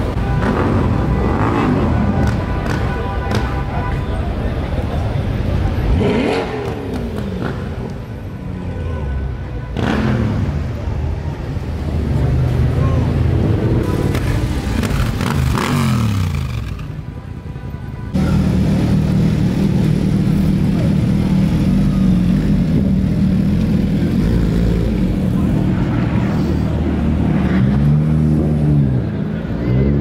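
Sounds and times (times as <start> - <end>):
motorcycle engines passing: 0.0 - 8.1, 9.8 - 17.0, 18.1 - 30.0.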